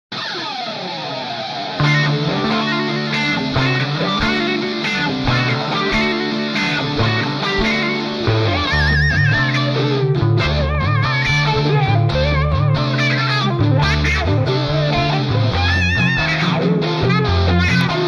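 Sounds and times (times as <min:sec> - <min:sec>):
electric guitar riff: 0:00.1 - 0:18.0
bass and drums: 0:01.8 - 0:18.0.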